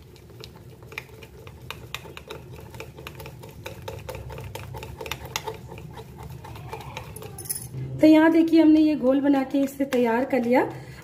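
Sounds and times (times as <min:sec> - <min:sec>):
spoon beating batter in glass bowl: 0:00.0 - 0:07.8, 0:08.7 - 0:10.7.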